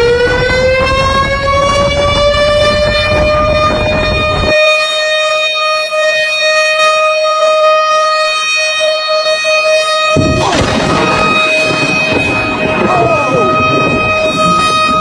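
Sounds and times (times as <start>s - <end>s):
long high tone rising in pitch: 0.0s - 15.0s.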